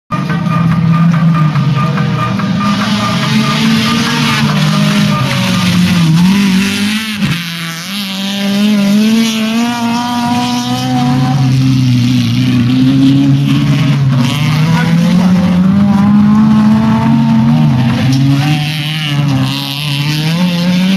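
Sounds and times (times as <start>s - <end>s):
car engines revving hard: 0.1s - 20.9s.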